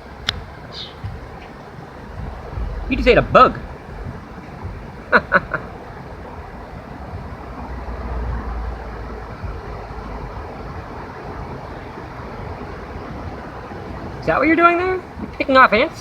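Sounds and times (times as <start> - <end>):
low outdoor background rumble: 0.0 - 16.0.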